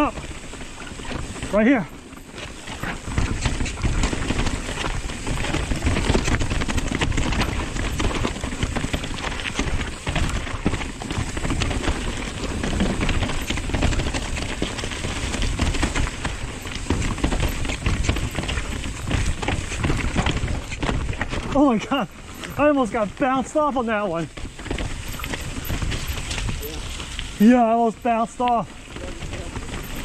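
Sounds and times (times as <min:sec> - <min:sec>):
bike clattering: 0:00.0 - 0:30.0
tyres crunching over rocks and leaves: 0:00.0 - 0:30.0.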